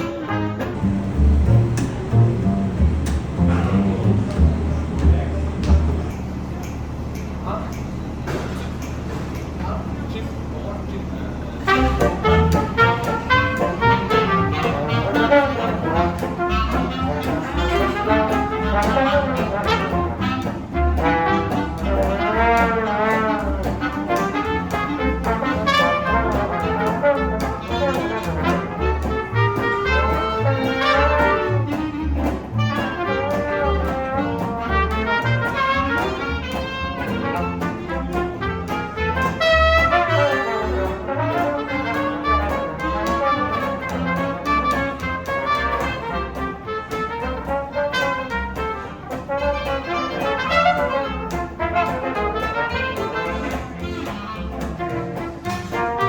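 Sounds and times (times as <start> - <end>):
trumpet melody: 0.0 - 6.2, 11.6 - 56.0
jazz band playing: 0.0 - 56.0.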